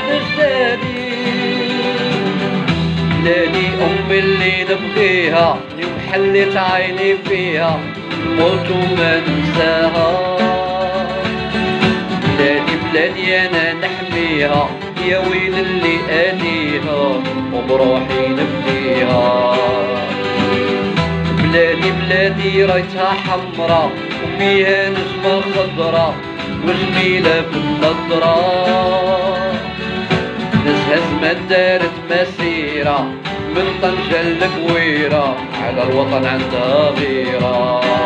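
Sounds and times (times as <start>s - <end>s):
lute strings plucked: 0.0s - 38.0s
man singing: 0.0s - 38.0s.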